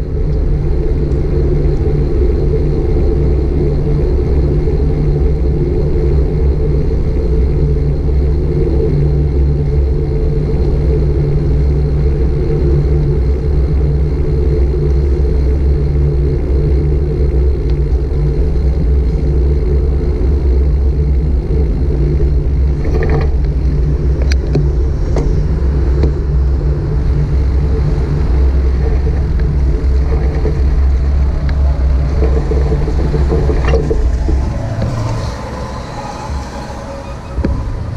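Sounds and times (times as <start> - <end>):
road noise: 0.0 - 37.9
wind buffeting microphone: 0.0 - 37.9.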